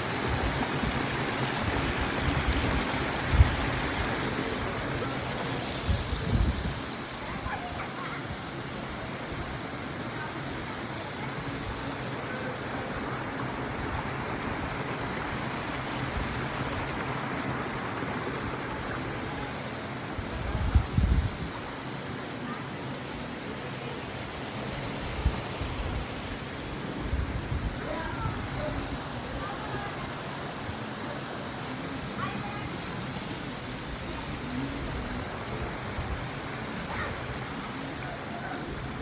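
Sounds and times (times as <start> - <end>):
stream water flowing: 0.0 - 39.0.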